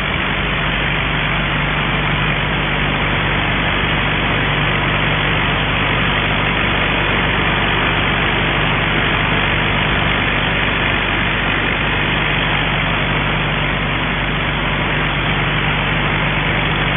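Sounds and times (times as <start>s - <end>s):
drilling rig engine tone: 0.0s - 16.9s.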